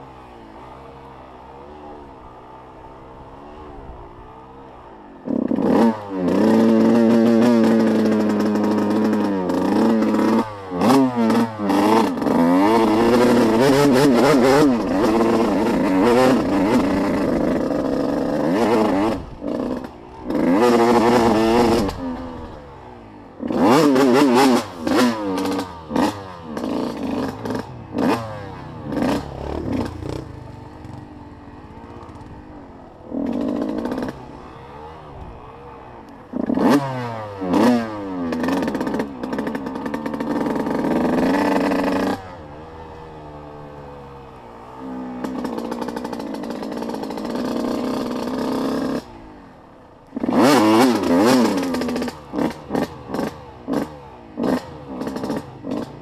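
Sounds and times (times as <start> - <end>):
small engine revving hard: 5.2 - 31.0, 31.7 - 49.5, 50.1 - 56.0.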